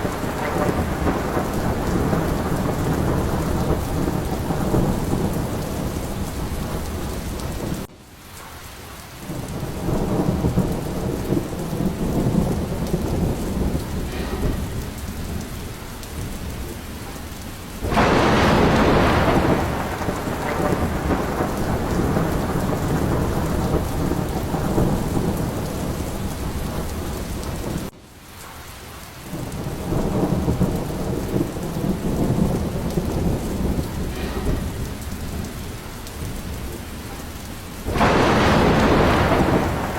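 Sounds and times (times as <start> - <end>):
rolling thunder: 0.0 - 7.9, 9.2 - 28.0, 29.2 - 39.9
steady rain falling: 0.0 - 39.9.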